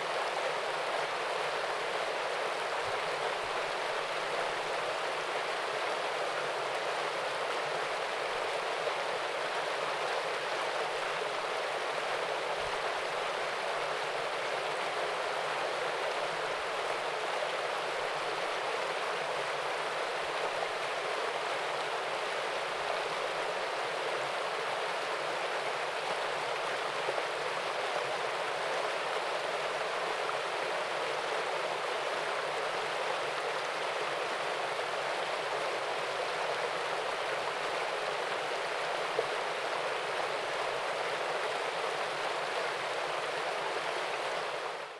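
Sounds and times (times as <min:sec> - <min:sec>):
waterfall and stream rushing: 0:00.0 - 0:44.9.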